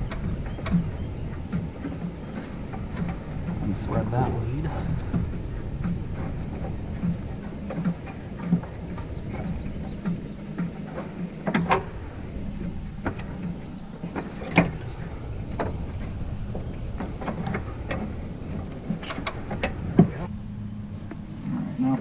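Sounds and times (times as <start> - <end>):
tools clicking and knocking: 0.0 - 20.2
low background rumble: 0.0 - 22.0.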